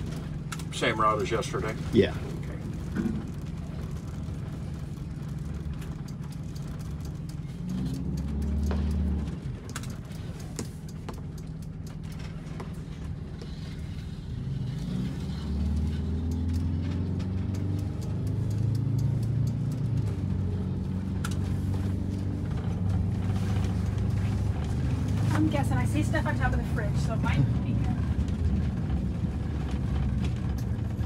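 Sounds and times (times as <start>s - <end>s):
diesel coach engine running: 0.0s - 31.0s
interior clicks and rattles: 0.0s - 31.0s.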